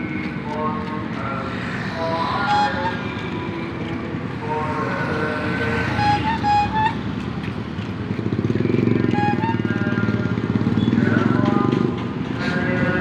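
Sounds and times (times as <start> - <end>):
street traffic noise: 0.0 - 13.0
vehicle engine pulsing: 0.0 - 13.0.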